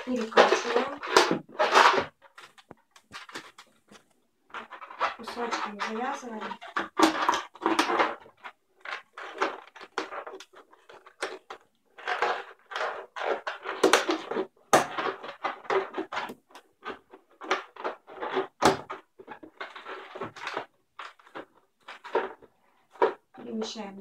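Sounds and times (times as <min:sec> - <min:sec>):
balloon squeaking and rubbing: 0:00.0 - 0:22.5.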